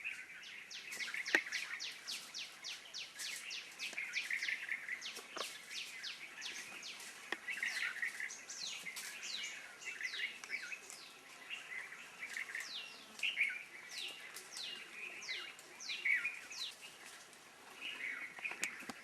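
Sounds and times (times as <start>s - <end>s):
bird chirps: 0.0s - 17.2s.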